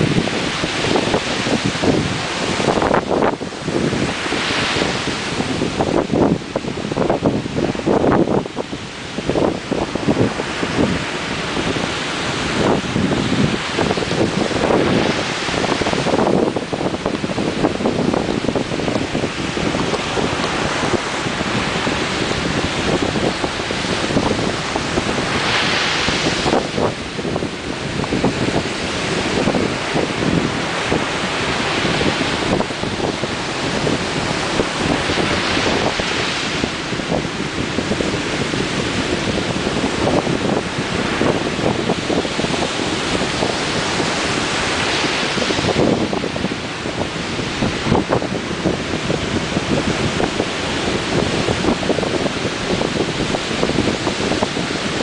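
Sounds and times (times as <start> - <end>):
ocean surf breaking: 0.0 - 55.0
wind buffeting microphone: 0.0 - 55.0.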